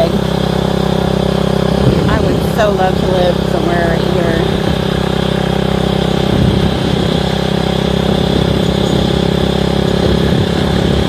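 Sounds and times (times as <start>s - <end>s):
motorcycle engine cruising: 0.0s - 11.0s
wind rushing over microphone: 1.6s - 11.0s.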